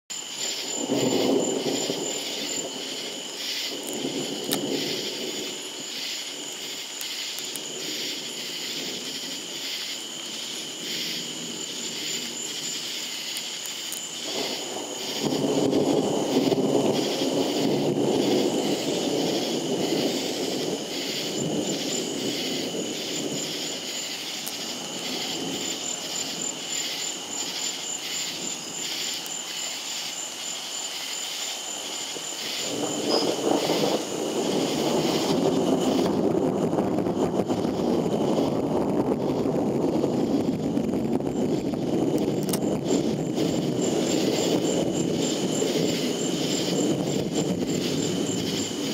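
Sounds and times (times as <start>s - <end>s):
night insects chirping: 0.1s - 48.9s
thunderstorm rumble: 0.1s - 48.9s.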